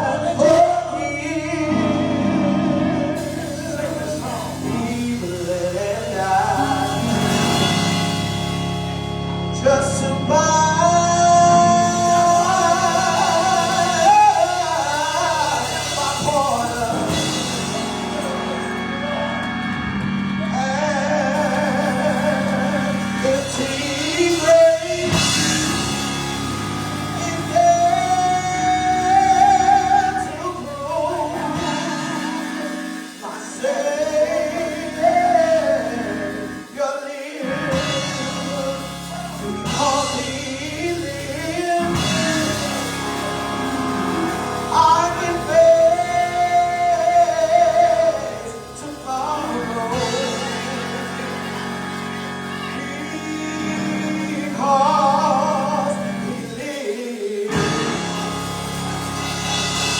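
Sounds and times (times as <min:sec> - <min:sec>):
keyboard: 0:00.0 - 0:59.9
person singing gospel: 0:00.0 - 0:59.9
drums: 0:03.2 - 0:09.3, 0:11.3 - 0:59.9.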